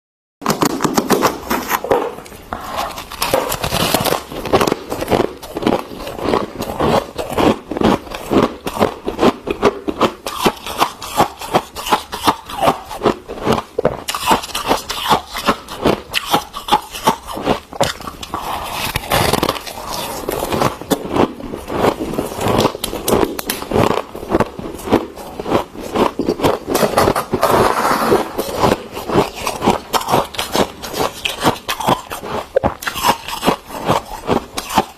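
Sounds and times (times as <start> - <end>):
frost being scraped and crunched: 2.5 - 8.8, 10.3 - 34.9.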